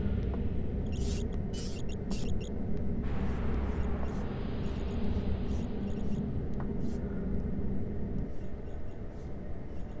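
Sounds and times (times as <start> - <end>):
low machine rumble: 0.0 - 8.7.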